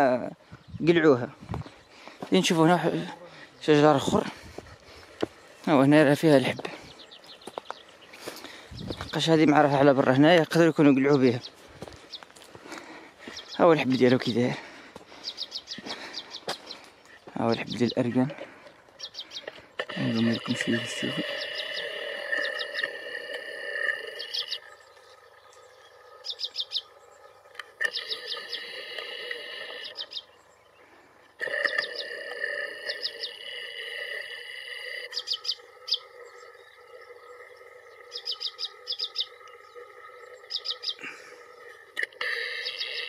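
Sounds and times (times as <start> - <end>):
outdoor background sound: 0.0 - 43.0
small birds chirping: 0.0 - 43.0.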